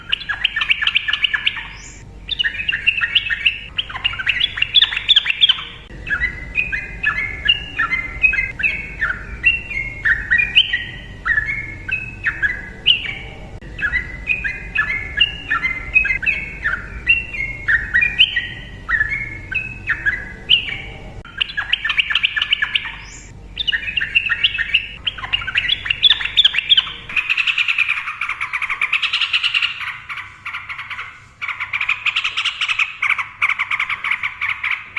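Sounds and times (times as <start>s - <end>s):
bird singing: 0.0s - 34.9s.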